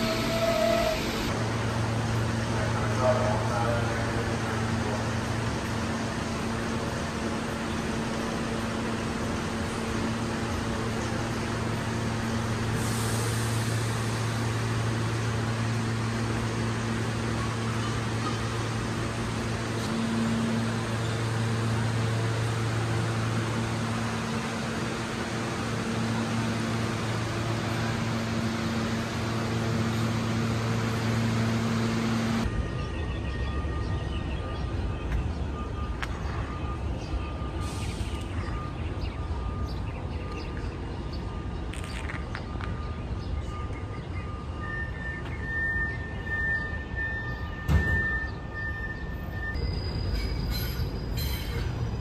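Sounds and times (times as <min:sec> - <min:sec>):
train equipment humming: 0:00.0 - 0:52.0.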